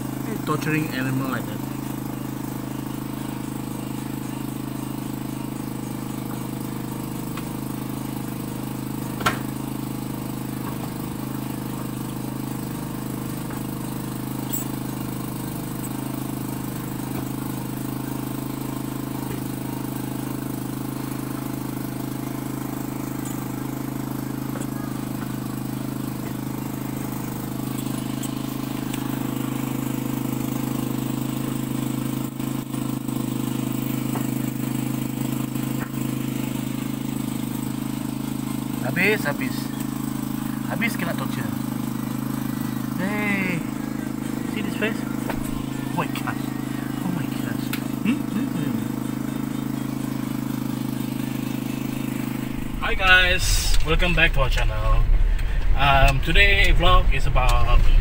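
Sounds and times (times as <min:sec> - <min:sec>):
engine drone: 0:00.0 - 0:58.0.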